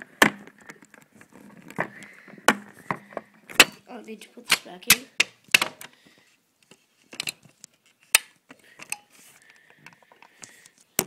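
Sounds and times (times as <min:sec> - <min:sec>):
phone rustling: 0:00.0 - 0:11.0.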